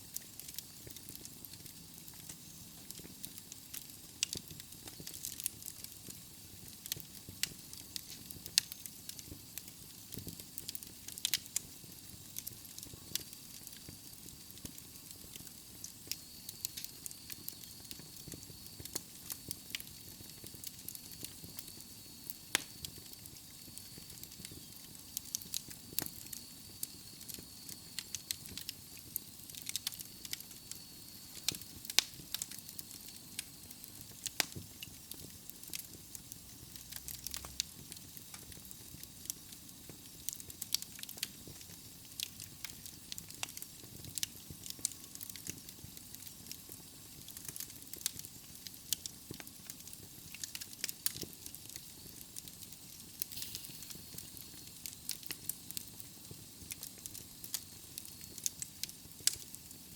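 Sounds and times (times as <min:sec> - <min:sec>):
logs crackling and popping in fire: 0:00.0 - 0:59.9.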